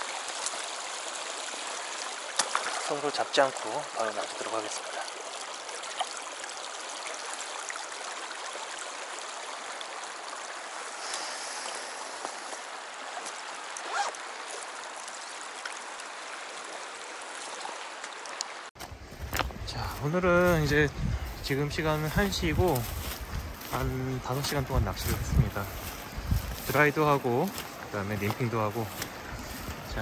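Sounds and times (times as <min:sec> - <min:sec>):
stream flowing over stones: 0:00.0 - 0:30.0.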